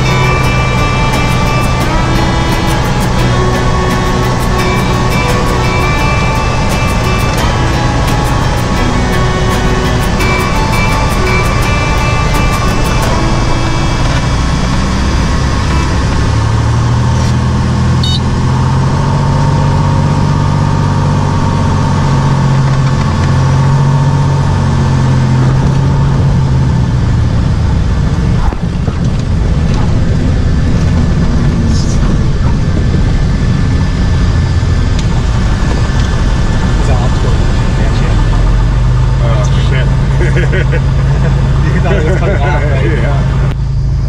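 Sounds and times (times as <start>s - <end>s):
airplane engine and propeller droning: 0.0s - 44.0s.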